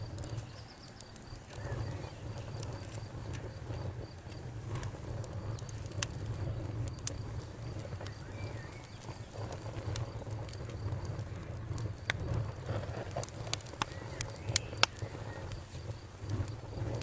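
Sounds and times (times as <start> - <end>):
campfire crackling: 0.0 - 17.0
steady low rumble: 0.0 - 17.0.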